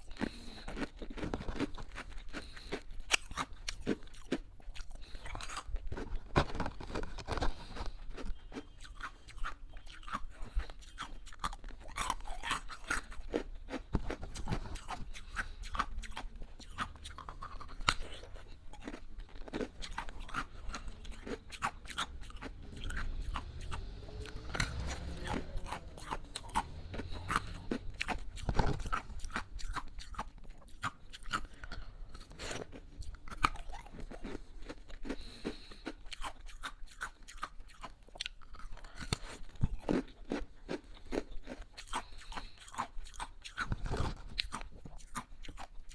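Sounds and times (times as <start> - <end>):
chewing ice cubes: 0.0 - 45.9.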